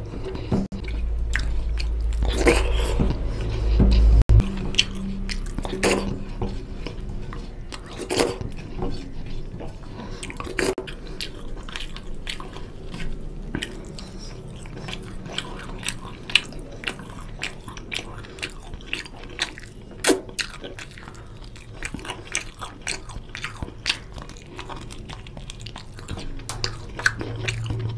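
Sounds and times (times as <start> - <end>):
wet chewing and mouth smacking: 0.0 - 27.9.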